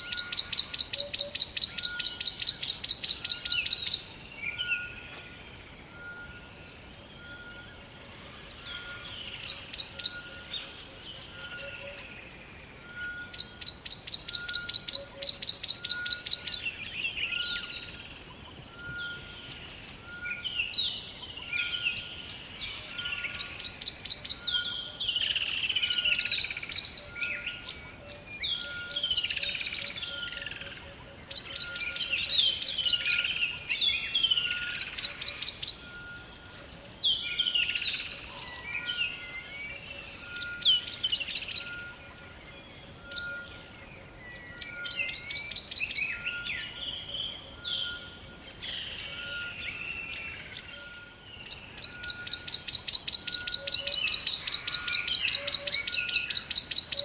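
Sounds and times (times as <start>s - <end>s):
bird chirps: 0.0s - 57.0s
birds singing: 0.0s - 57.0s.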